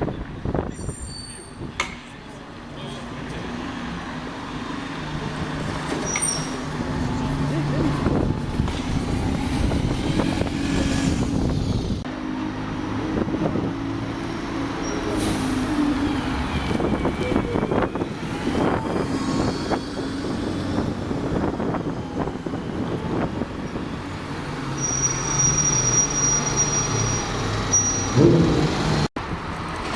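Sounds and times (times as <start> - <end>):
diesel bus engines running: 0.0 - 29.9
road traffic noise: 0.0 - 29.9.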